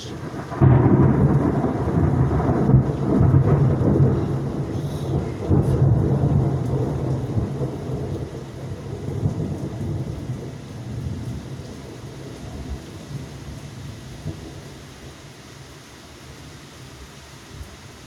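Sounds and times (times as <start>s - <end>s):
thunder rumbling: 0.0s - 14.8s
heavy rain: 0.0s - 18.0s.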